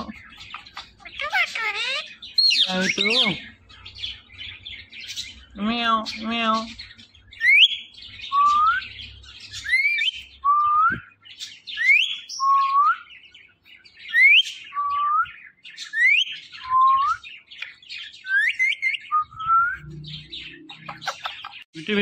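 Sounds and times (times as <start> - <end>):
faint bird chirping: 0.0 - 22.0.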